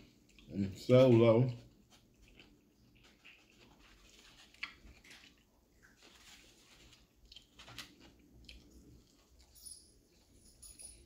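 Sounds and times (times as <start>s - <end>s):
chewing fried fish: 0.0s - 10.4s.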